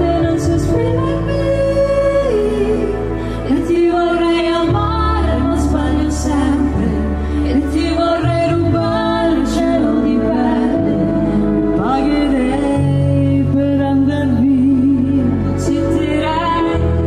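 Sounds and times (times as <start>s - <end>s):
live pop band playing ballad: 0.0s - 17.0s
woman singing: 0.0s - 17.0s.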